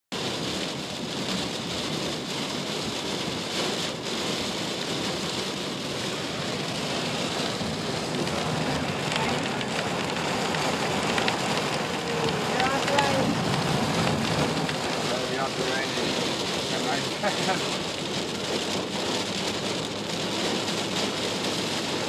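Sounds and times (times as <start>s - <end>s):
heavy rain falling: 0.1s - 22.0s.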